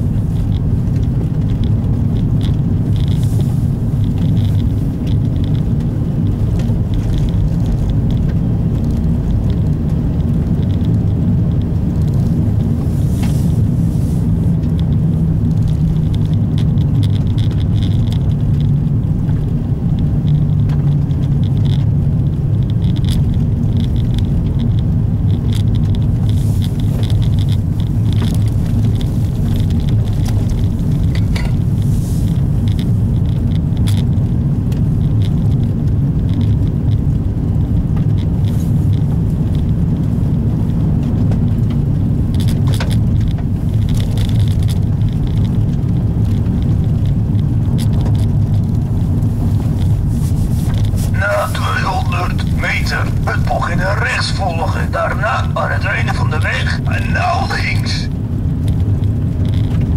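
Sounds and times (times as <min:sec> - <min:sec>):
car engine and road drone: 0:00.0 - 0:59.9.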